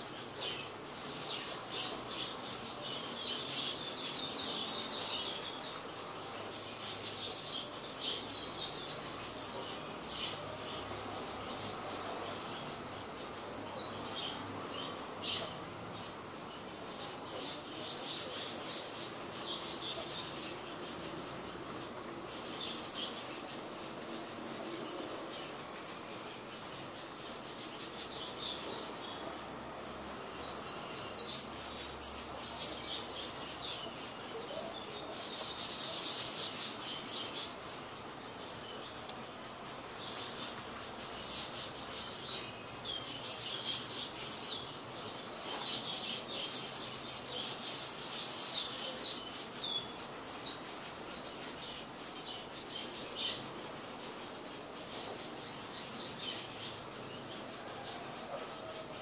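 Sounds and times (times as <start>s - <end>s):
birds chirping high and thin: 0.0s - 59.0s.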